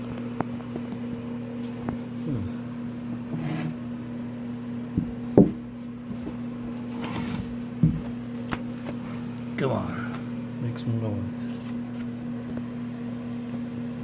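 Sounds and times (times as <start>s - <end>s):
refrigerator fan motor humming: 0.0s - 14.0s.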